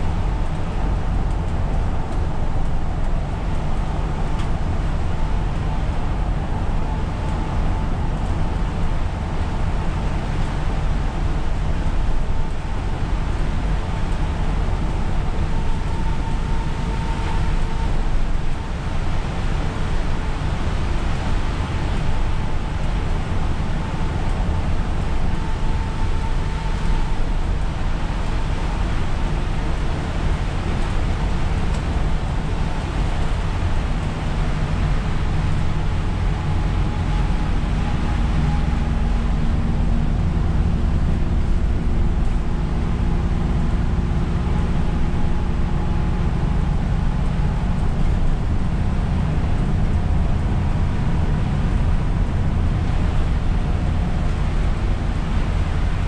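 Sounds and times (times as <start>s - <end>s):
bus engine rumble: 0.0s - 56.0s
faint steady whine: 0.0s - 56.0s.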